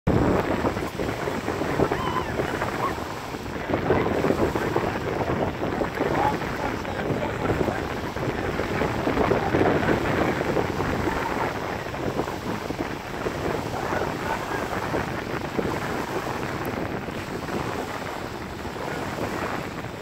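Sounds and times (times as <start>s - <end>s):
small waves lapping and splashing: 0.1s - 20.0s
wind rumbling on microphone: 0.1s - 20.0s.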